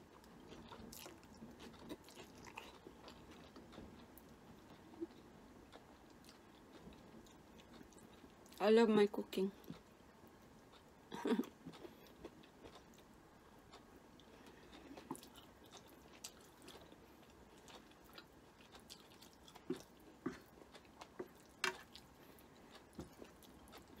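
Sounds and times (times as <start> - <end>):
person chewing: 0.0 - 8.6, 10.6 - 24.0.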